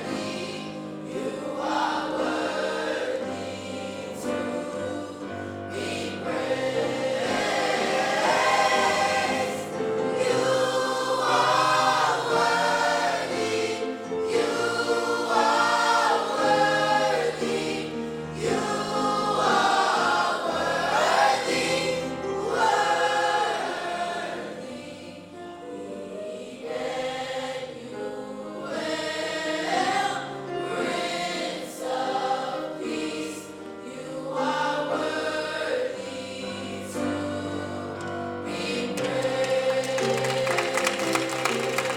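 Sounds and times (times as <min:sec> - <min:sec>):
gospel choir singing: 0:00.0 - 0:41.9.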